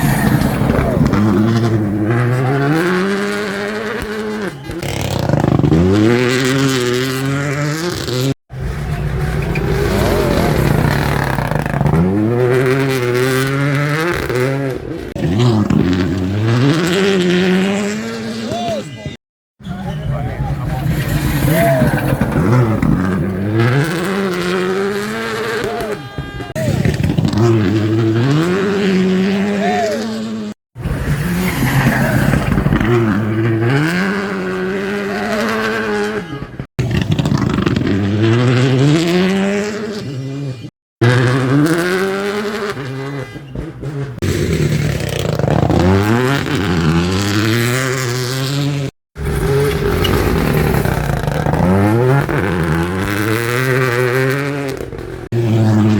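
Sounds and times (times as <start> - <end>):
rally car engine revving: 0.0 - 55.9.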